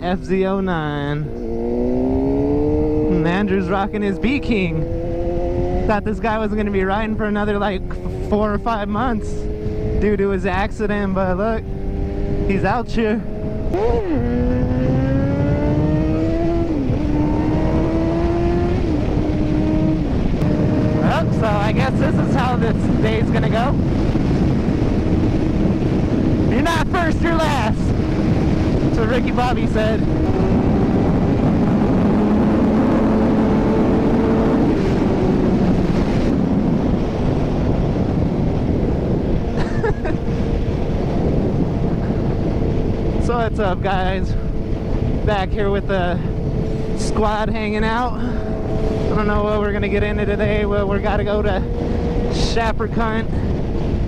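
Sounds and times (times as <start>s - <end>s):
low rushing rumble: 0.0s - 54.0s
motorcycle engine accelerating: 0.0s - 54.0s.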